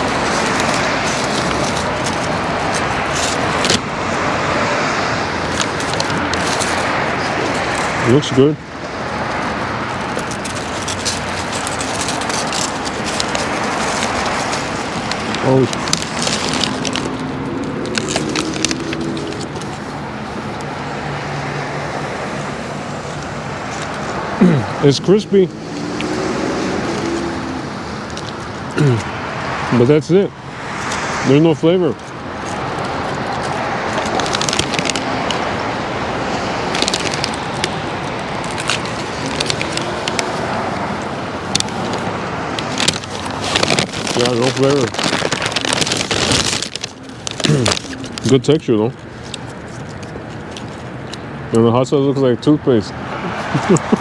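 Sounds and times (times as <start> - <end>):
crunchy taco being chewed: 0.0 - 8.2, 8.8 - 24.8, 25.5 - 29.7, 32.0 - 48.3, 49.1 - 51.3
road traffic noise: 0.0 - 54.0
steady background noise: 0.0 - 54.0.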